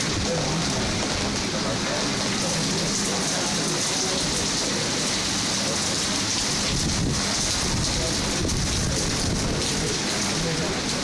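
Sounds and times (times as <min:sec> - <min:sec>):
rain spattering on wet surfaces: 0:00.0 - 0:11.0.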